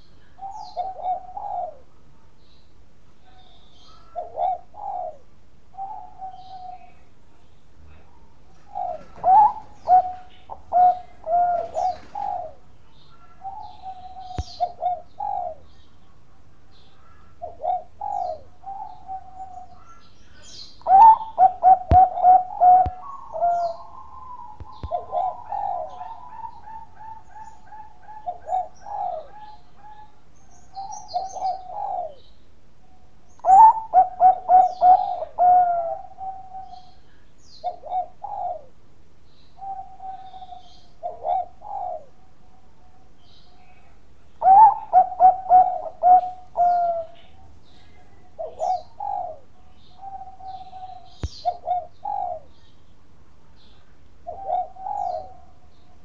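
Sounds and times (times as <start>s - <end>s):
dove cooing: 0.0s - 2.3s, 3.2s - 7.2s, 7.9s - 52.7s, 53.6s - 56.0s.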